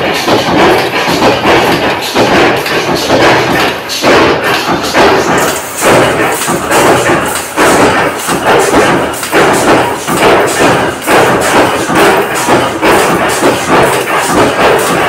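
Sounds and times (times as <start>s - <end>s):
press thumping: 0.0s - 15.0s.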